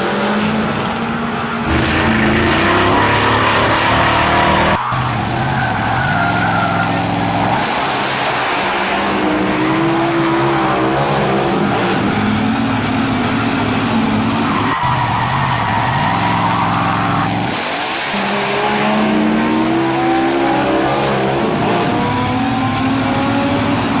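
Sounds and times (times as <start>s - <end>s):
car engine revving: 0.0s - 24.0s
tyres skidding: 0.0s - 24.0s.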